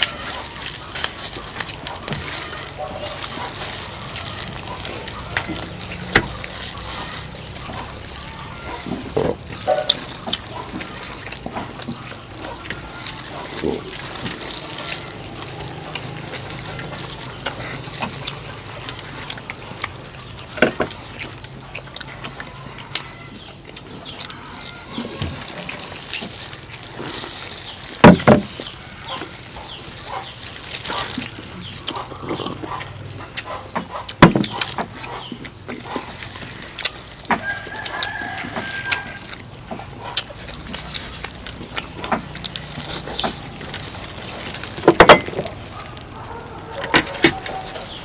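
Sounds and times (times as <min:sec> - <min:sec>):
rooster crowing and clucking: 0:00.0 - 0:48.0.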